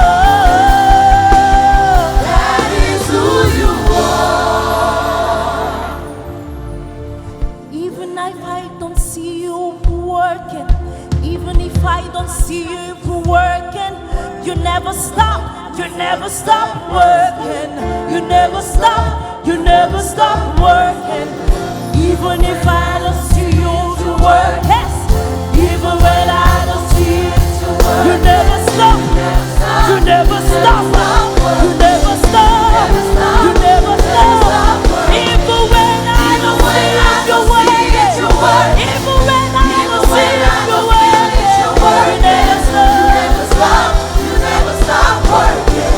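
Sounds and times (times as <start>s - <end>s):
people singing: 0.0s - 9.2s, 13.4s - 45.9s
gospel band playing: 0.0s - 45.9s.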